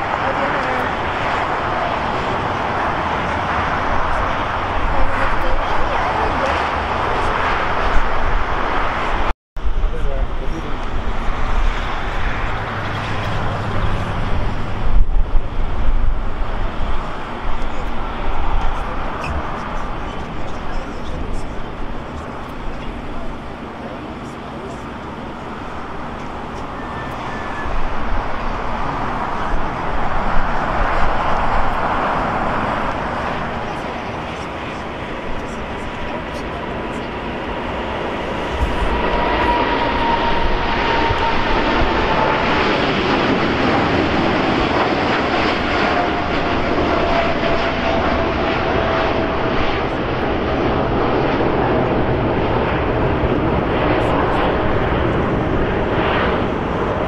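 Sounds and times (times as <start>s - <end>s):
jet airliner roar: 0.0s - 57.0s
wind rumble on microphone: 0.0s - 57.0s.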